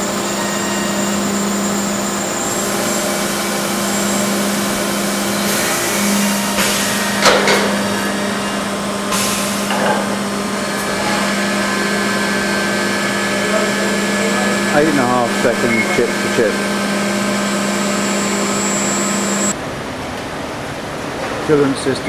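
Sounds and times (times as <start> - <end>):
machine hum: 0.0 - 21.8
spindles and coolant noise: 0.0 - 22.0.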